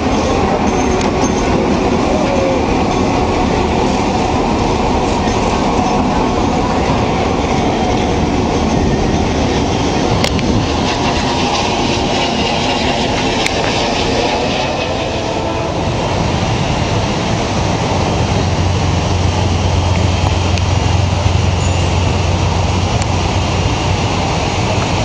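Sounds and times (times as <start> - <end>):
locomotive engine: 0.0 - 25.0
wheels on rails: 0.0 - 25.0.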